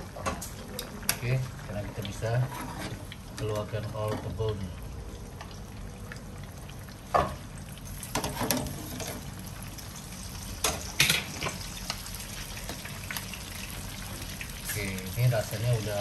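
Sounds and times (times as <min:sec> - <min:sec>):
chicken frying in oil: 0:00.0 - 0:16.0.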